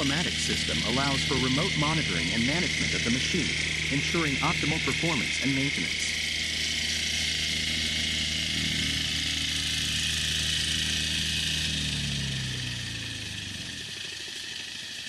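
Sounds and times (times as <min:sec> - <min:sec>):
construction machine engine running: 0:00.0 - 0:15.0
steady hiss: 0:00.0 - 0:15.0.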